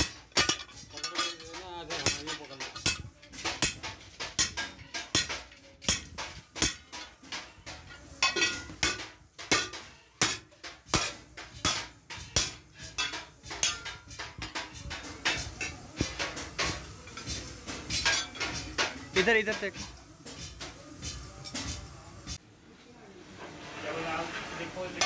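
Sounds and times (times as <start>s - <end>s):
iron griddles clanking: 0.0s - 20.8s.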